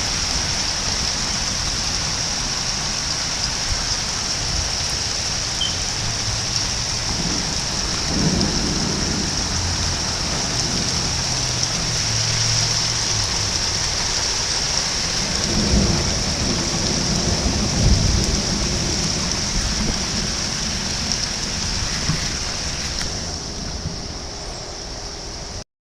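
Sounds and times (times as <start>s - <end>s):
thunder rumbling: 0.0s - 24.3s
steady rain hiss: 0.0s - 25.6s.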